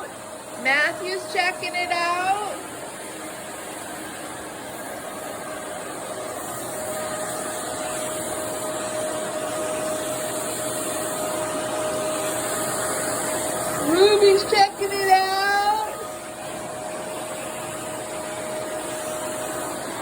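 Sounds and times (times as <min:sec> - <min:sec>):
vacuum cleaner whine: 0:00.0 - 0:20.0.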